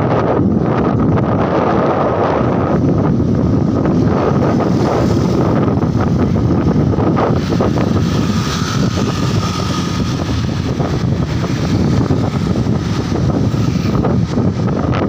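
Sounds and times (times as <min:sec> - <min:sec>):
wind buffeting microphone: 0:00.0 - 0:15.0
motor scooter engines running: 0:02.5 - 0:15.0.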